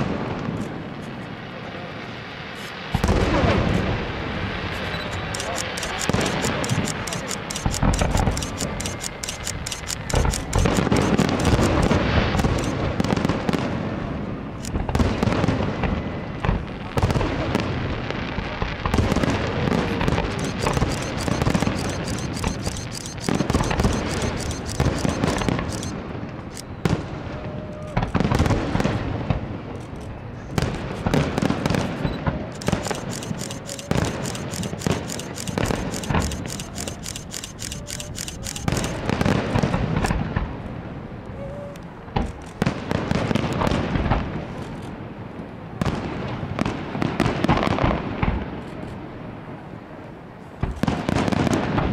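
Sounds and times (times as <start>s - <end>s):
fireworks bangs and crackling: 0.0s - 9.2s, 9.9s - 37.0s, 37.6s - 41.2s, 41.9s - 49.6s, 50.6s - 51.9s.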